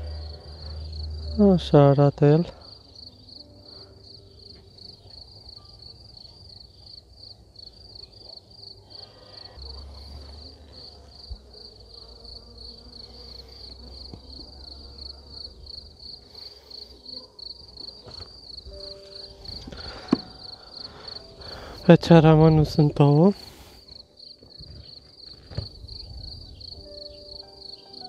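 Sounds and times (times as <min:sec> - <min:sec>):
honeybees humming: 0:00.0 - 0:06.8, 0:08.7 - 0:28.0
insect trill: 0:00.0 - 0:28.0.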